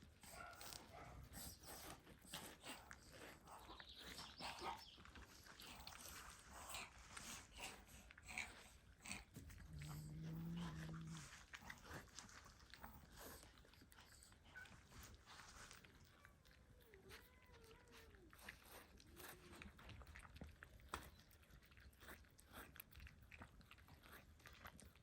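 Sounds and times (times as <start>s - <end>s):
dog chewing wetly: 0.0s - 25.0s
dog low drawn-out vocal sound: 0.0s - 25.0s.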